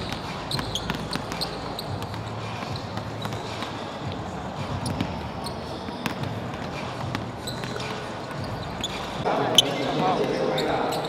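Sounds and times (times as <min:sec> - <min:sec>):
basketballs bouncing on wood: 0:00.0 - 0:09.2
background hubbub: 0:00.0 - 0:11.0.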